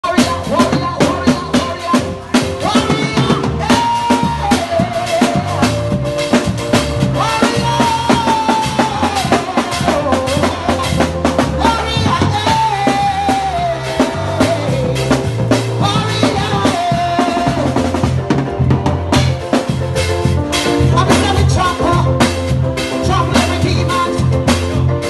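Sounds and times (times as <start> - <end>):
bass guitar line: 0.0 - 25.0
drum kit hits: 0.0 - 25.0
keyboard: 0.0 - 25.0.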